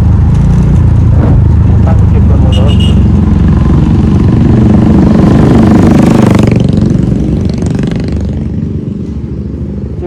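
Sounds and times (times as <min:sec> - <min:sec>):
motor scooter engine: 0:00.0 - 0:08.9
road and wind noise: 0:00.0 - 0:10.0.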